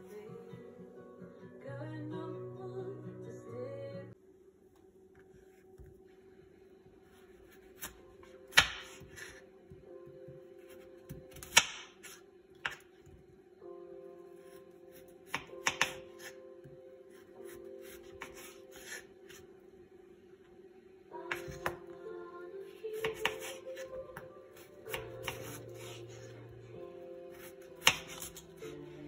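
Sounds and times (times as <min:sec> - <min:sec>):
soft background music: 0:00.0 - 0:29.0.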